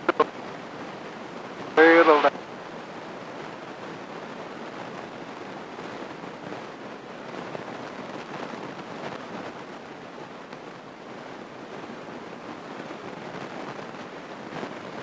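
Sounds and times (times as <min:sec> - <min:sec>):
light plane cabin noise: 0:00.0 - 0:15.0.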